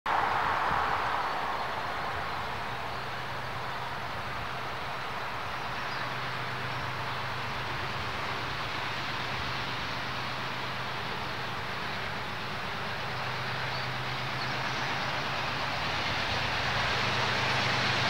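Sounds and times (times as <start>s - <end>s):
locomotive engine drone: 0.1s - 18.0s
moving train noise: 0.1s - 18.0s.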